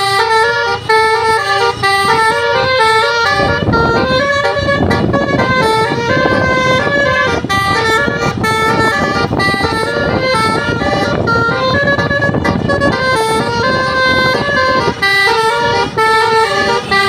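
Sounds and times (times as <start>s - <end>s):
musical bus horn tune: 0.0s - 17.0s
steady low rumble: 0.0s - 17.0s.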